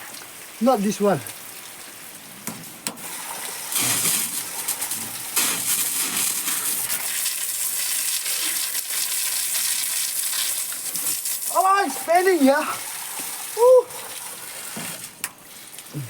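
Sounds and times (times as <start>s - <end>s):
water gushing and splashing: 0.0s - 16.0s.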